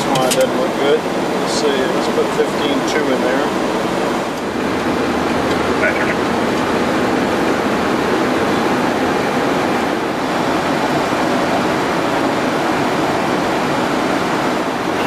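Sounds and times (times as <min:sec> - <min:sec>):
cockpit airflow and machinery noise: 0:00.0 - 0:15.0.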